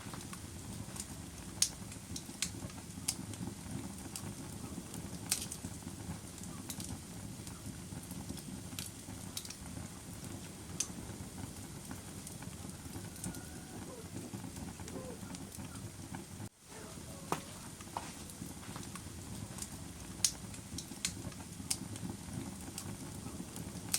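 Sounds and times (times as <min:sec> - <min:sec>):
fire crackling and popping: 0:00.0 - 0:23.9.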